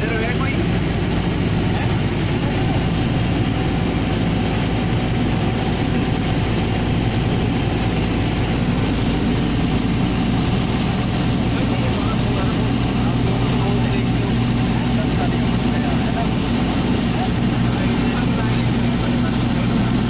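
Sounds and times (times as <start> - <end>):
boat engine droning: 0.0 - 20.0
water rushing along hull: 0.0 - 20.0.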